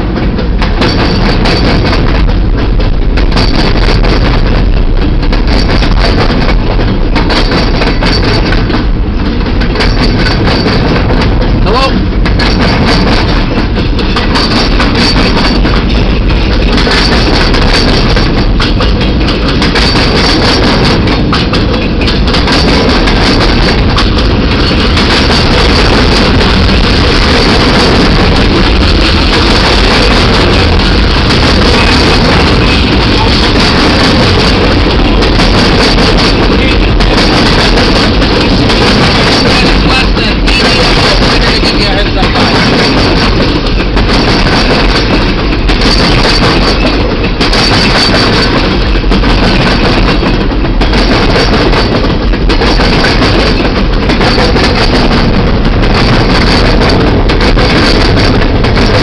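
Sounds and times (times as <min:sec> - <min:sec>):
train rumbling by: 0:00.0 - 0:59.0.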